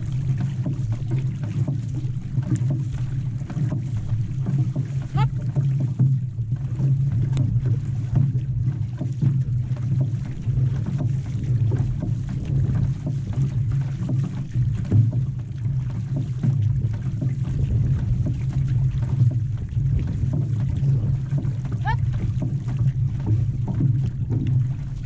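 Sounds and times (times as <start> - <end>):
water rushing along a canoe hull: 0.0 - 25.0
water splashes: 0.0 - 25.0.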